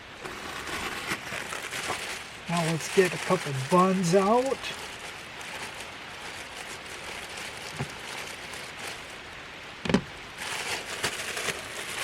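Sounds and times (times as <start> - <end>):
steady hiss: 0.0 - 12.0
plastic bag crinkling: 0.2 - 12.0.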